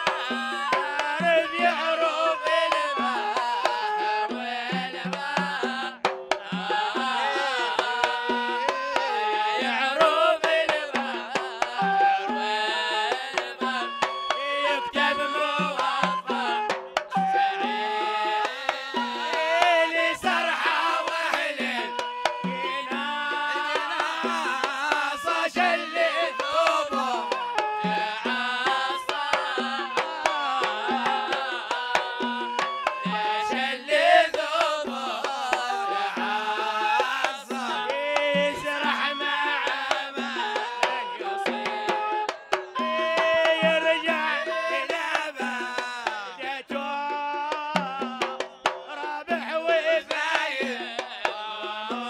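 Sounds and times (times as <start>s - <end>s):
person singing devotional song: 0.0s - 42.1s, 42.8s - 52.0s
hand drums beating: 0.0s - 52.0s.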